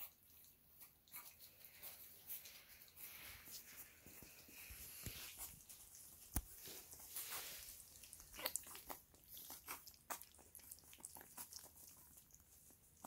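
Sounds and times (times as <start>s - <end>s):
puppies lapping food: 0.0s - 13.0s.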